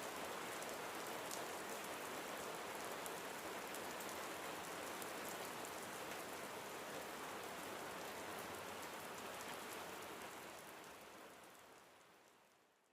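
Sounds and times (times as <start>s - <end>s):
rain patter: 0.0s - 12.9s.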